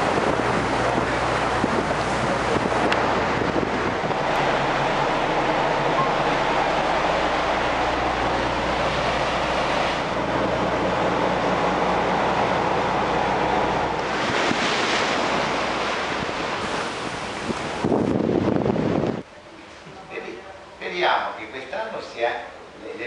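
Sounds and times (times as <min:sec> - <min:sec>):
wind and spray hiss: 0:00.0 - 0:20.3
boat engine drone: 0:00.0 - 0:20.8
rushing water: 0:00.0 - 0:21.6.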